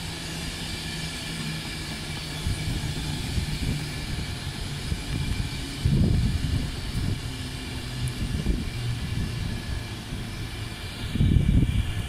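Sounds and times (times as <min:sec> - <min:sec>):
low hum: 0:00.0 - 0:12.0
train wheels rumbling on rail: 0:00.0 - 0:12.0.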